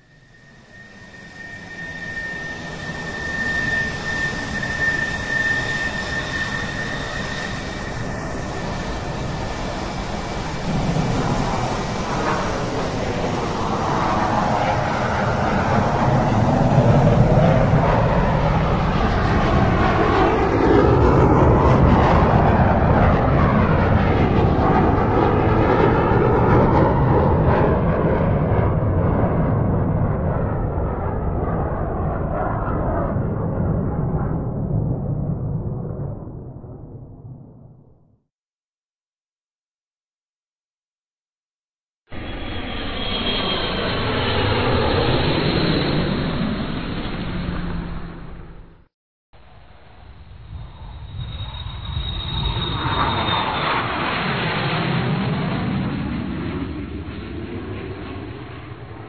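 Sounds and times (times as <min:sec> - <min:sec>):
jet engine high whine: 0:00.0 - 0:38.0, 0:42.0 - 0:59.0
jet engine rumble: 0:00.0 - 0:38.2, 0:42.0 - 0:59.0.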